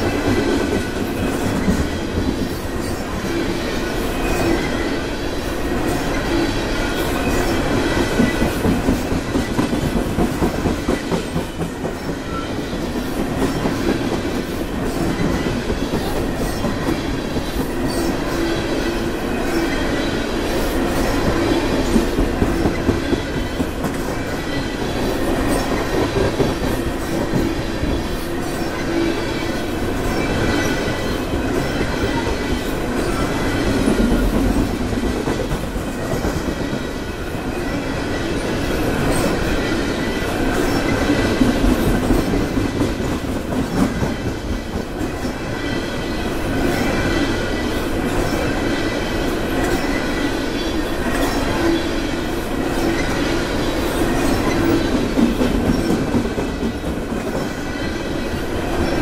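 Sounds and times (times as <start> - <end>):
clickety-clack over rail joints: 0.0 - 51.8, 52.7 - 59.0
train wheels rumbling on rail: 0.0 - 59.0.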